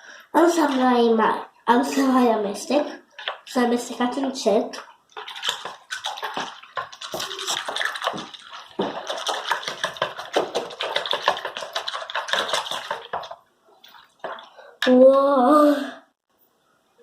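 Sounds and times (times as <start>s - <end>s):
slime squelching when stirred: 0.3s - 15.1s.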